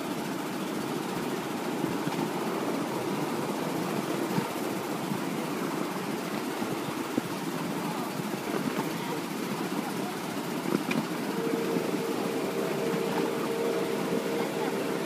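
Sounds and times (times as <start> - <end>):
steady humming tone: 0.0 - 15.0.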